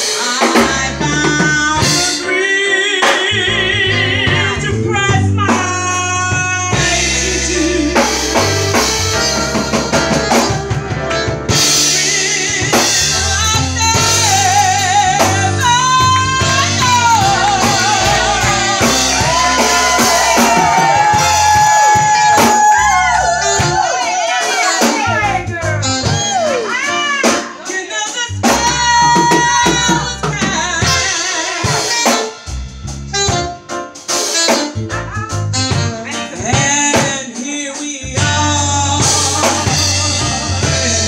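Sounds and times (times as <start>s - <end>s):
drum kit with cymbals: 0.0s - 41.0s
keyboard: 0.0s - 41.0s.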